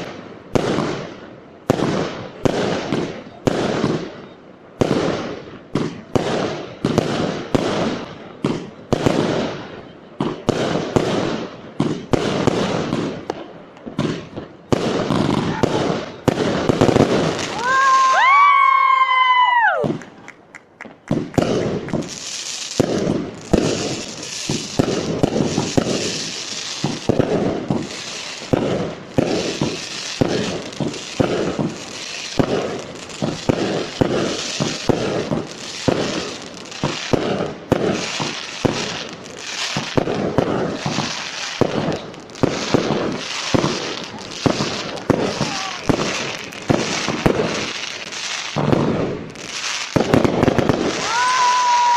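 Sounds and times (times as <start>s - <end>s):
firework bangs and crackling: 0.0s - 51.9s
firework whistling: 0.0s - 51.9s.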